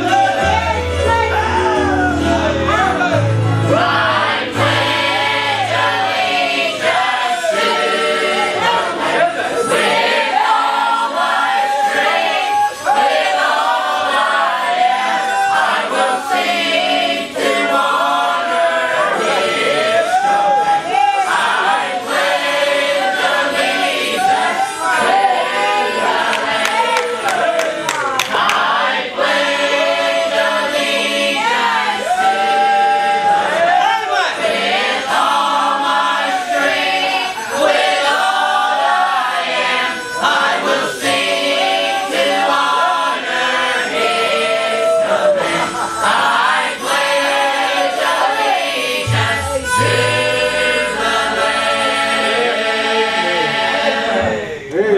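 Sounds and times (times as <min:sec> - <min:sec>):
choir singing a gospel song: 0:00.0 - 0:54.9.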